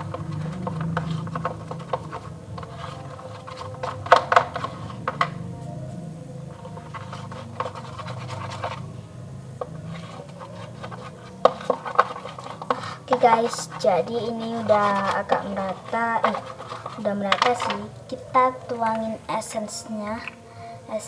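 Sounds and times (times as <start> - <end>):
utensil scraping a bowl: 0.0 - 5.5, 6.4 - 20.5
low steady hum: 0.0 - 21.0.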